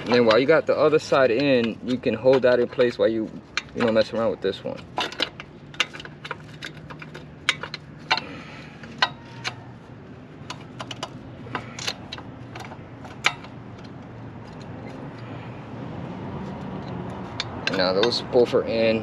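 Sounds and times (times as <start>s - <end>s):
metallic clicks of brake parts: 0.0s - 9.8s, 10.4s - 15.6s, 16.4s - 19.0s.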